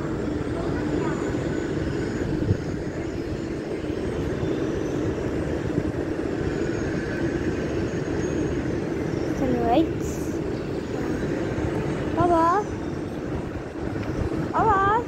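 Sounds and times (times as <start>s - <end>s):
low rumble of railway station: 0.0s - 15.0s.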